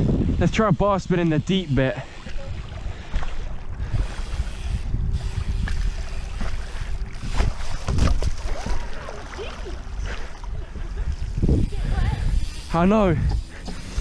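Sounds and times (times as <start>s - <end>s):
wind on microphone: 0.0s - 14.0s
bike tyres splashing water: 0.4s - 14.0s.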